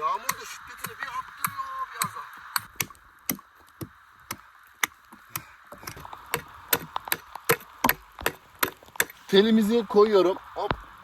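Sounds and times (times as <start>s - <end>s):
rain falling: 0.0s - 11.0s
sharp taps and knocks: 0.2s - 9.2s.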